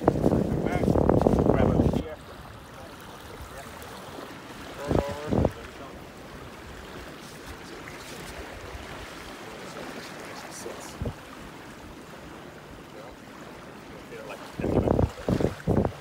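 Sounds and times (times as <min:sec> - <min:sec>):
water rushing at shore: 0:00.0 - 0:16.0.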